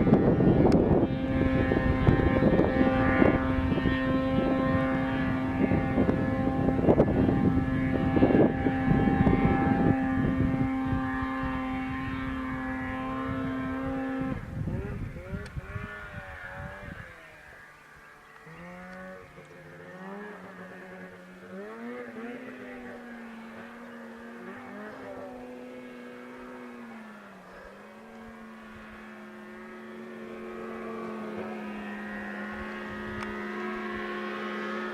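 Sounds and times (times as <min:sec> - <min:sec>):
snowmobile engine revving: 0:00.0 - 0:34.9.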